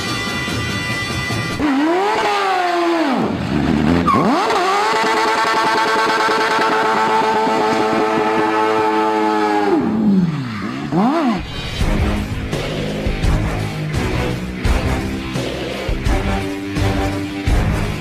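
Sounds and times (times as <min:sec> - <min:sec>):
car engine revving: 0:01.4 - 0:18.0.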